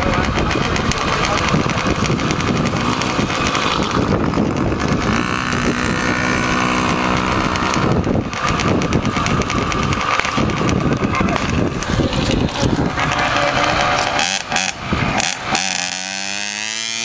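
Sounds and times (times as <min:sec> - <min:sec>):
mini bike engine ticking over: 0:00.0 - 0:17.0
mini bike pulling away: 0:00.0 - 0:17.0.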